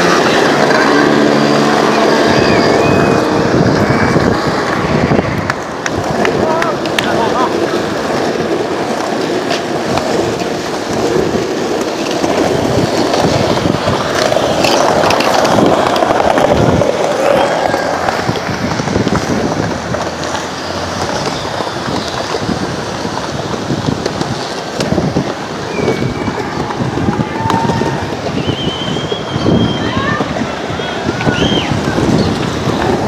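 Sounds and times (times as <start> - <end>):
skateboard wheels rolling on asphalt: 0.0 - 33.0.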